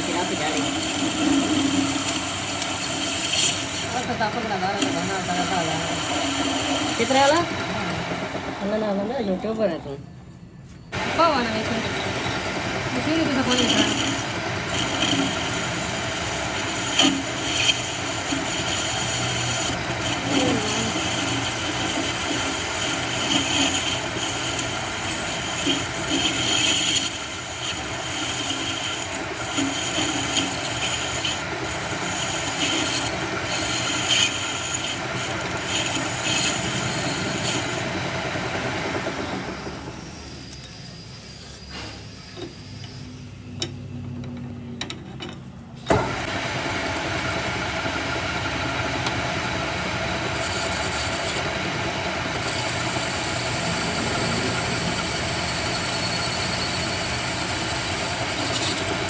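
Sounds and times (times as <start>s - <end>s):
machine running with high whine: 0.0s - 9.6s, 10.4s - 44.2s, 46.0s - 59.0s.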